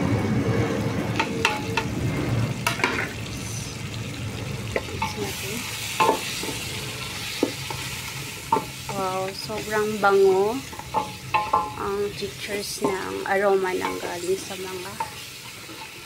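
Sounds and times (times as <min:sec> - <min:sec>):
food sizzling in oil: 0:00.2 - 0:16.0.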